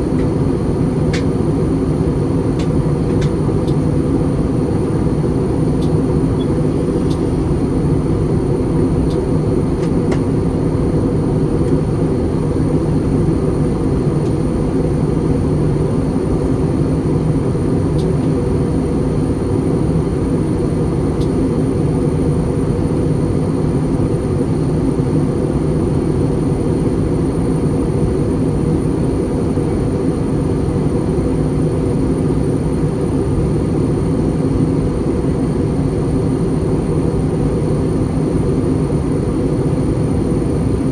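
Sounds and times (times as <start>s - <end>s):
airplane engine and airflow drone: 0.0s - 40.9s.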